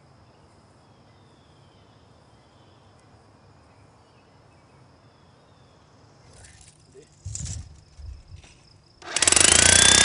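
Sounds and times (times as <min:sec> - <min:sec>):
insect drone: 0:00.0 - 0:10.0.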